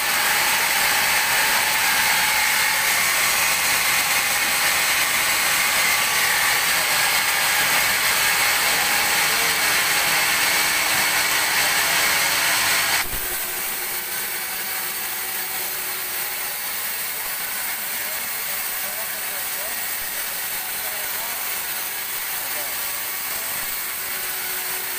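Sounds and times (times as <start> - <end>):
band saw cutting log: 0.0 - 24.9
sawmill running: 0.0 - 24.9.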